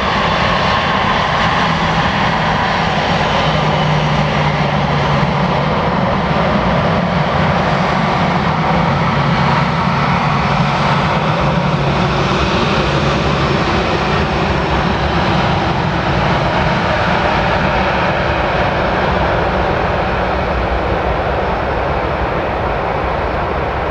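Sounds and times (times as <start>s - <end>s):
jet engines of landing airliner: 0.0s - 23.9s.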